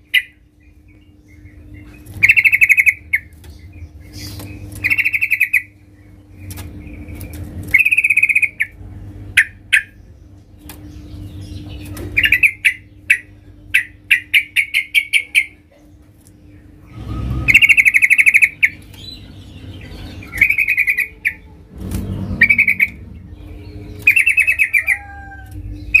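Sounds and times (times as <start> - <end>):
bird chattering trills: 0.0 - 26.0.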